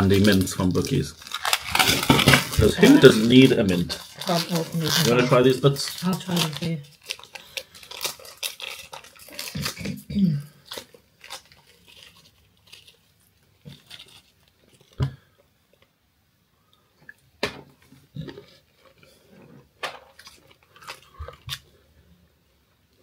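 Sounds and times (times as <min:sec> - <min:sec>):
chewing crunchy peanuts: 0:00.1 - 0:15.0, 0:18.1 - 0:21.8.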